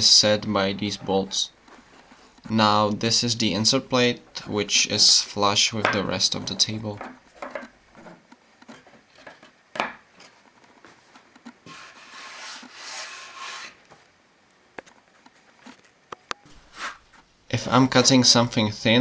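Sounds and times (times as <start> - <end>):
wood rubbing and sliding: 0.0 - 14.1, 14.8 - 18.6.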